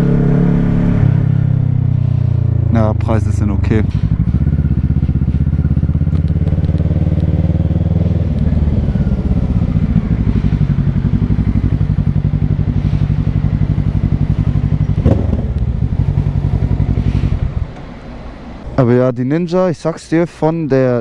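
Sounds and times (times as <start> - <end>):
motorcycle engine at low revs: 0.0 - 18.5.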